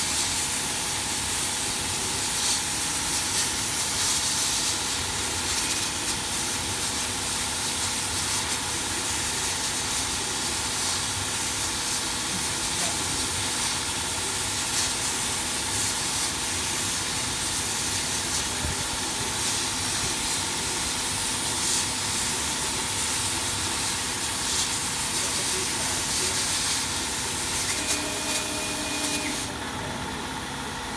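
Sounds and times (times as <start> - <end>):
laser cutter hissing: 0.0 - 30.0.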